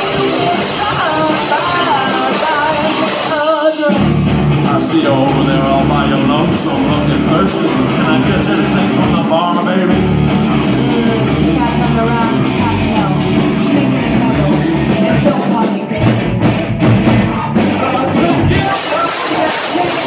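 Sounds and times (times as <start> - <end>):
man and woman singing: 0.0 - 16.5, 17.2 - 20.0
live rock band: 0.0 - 20.0.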